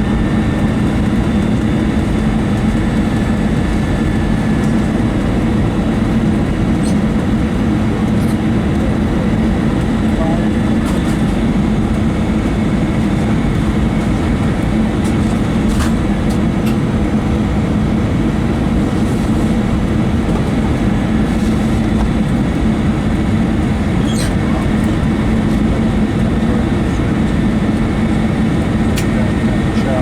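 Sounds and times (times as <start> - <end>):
airplane cabin roar: 0.0 - 30.0.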